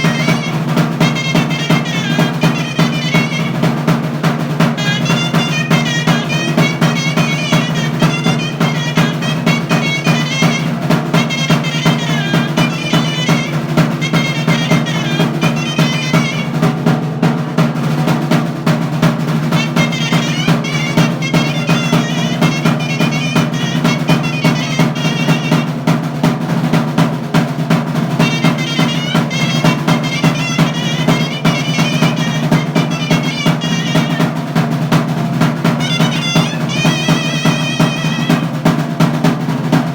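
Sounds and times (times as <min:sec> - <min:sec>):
rolling drum: 0:00.0 - 0:39.9
shawm playing melody: 0:00.0 - 0:39.9.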